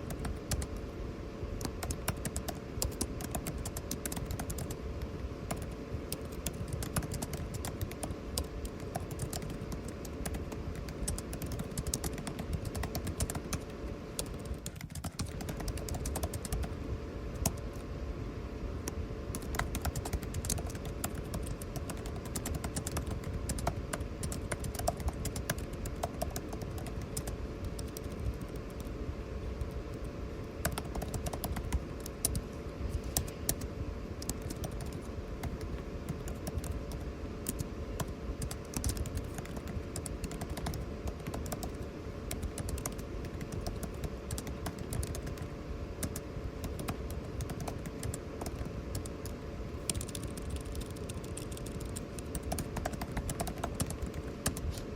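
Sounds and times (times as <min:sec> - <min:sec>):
keyboard typing clicks: 0:00.0 - 0:00.8, 0:01.6 - 0:17.8, 0:18.8 - 0:28.9, 0:29.6 - 0:54.9
air conditioning hum: 0:00.0 - 0:54.9.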